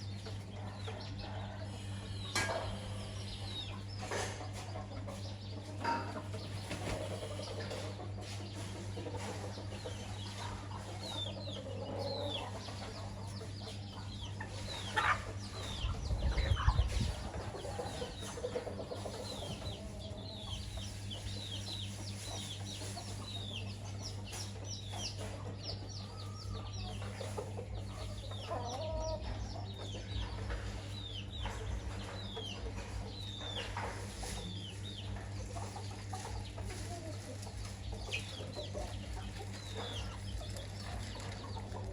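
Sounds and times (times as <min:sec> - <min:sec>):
chicks peeping: 0:00.0 - 0:41.9
hen clucking: 0:00.0 - 0:41.9
steady low hum: 0:00.0 - 0:41.9.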